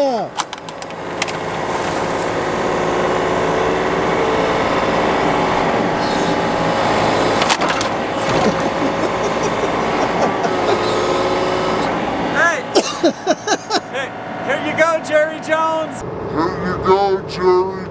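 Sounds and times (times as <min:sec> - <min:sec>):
excavator diesel engine running: 0:00.0 - 0:16.0
hydraulics whining: 0:00.0 - 0:16.0.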